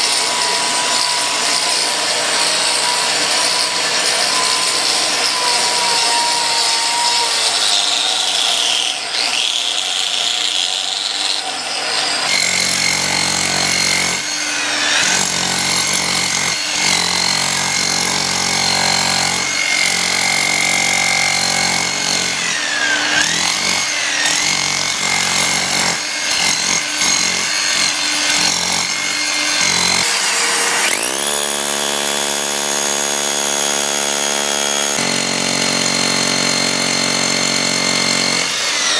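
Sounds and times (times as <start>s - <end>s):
angle grinder grinding concrete: 0.0s - 38.9s
demolition hammer chiselling concrete: 0.0s - 38.9s
hammer drill whining: 0.0s - 38.9s.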